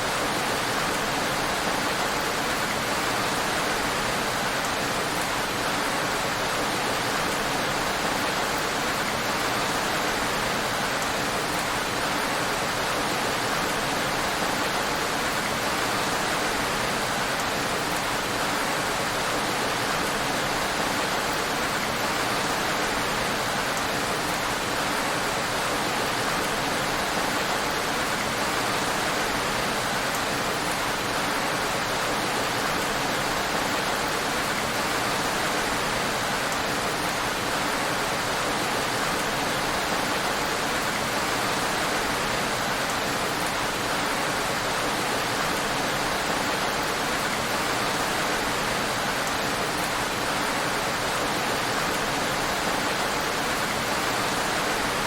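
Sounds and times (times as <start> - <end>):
heavy rain on a road: 0.0 - 55.0.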